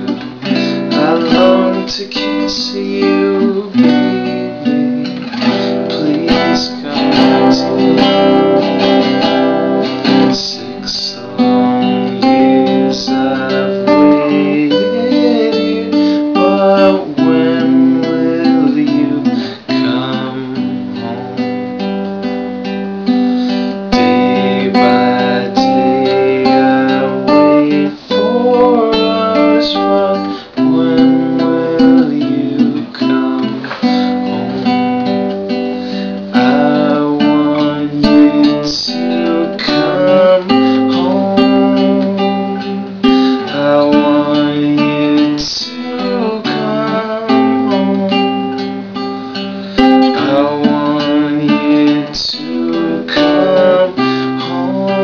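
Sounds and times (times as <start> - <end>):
classical guitar strummed: 0.0 - 55.0.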